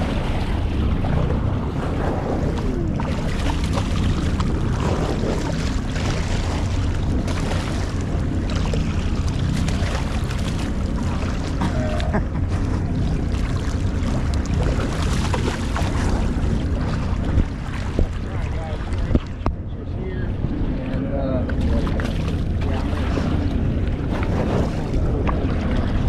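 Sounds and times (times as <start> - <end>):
water washing against hull: 0.0 - 26.0
wind rumble on microphone: 0.0 - 26.0.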